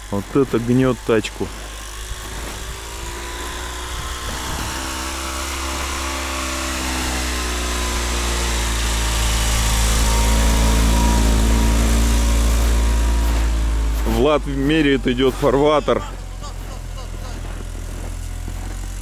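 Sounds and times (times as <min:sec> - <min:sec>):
all-terrain vehicle engine: 0:00.0 - 0:19.0.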